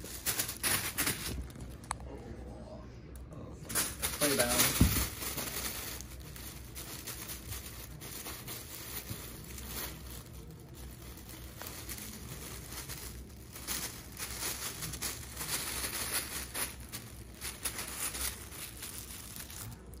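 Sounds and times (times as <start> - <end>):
foil blanket crinkling: 0.0 - 1.6, 3.7 - 20.0.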